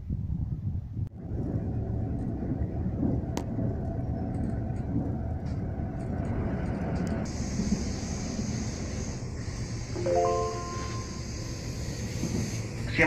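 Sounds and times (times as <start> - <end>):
train rumbling: 1.1 - 13.0.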